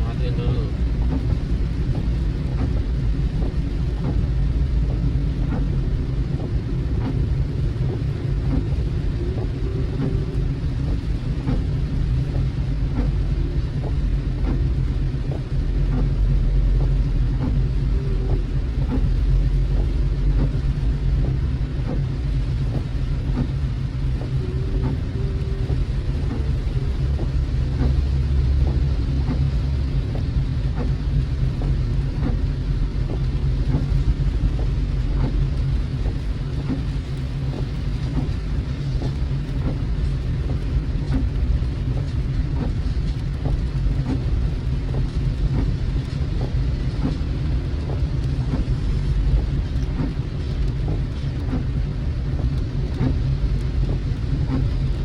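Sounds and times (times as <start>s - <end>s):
raindrops ticking on car: 0.0s - 55.0s
road and engine rumble: 0.0s - 55.0s.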